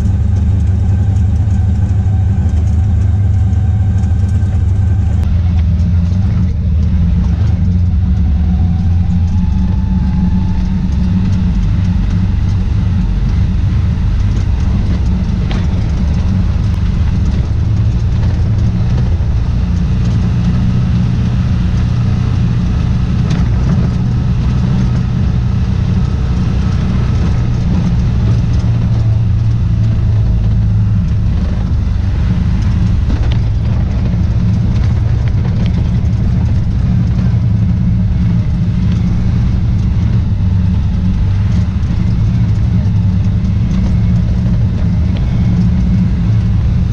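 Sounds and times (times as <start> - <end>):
vehicle engine drone from cab: 0.0 - 46.9.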